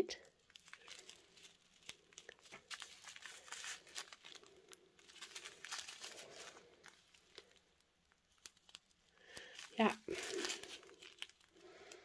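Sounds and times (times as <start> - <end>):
plastic bag crinkling: 0.1 - 12.0.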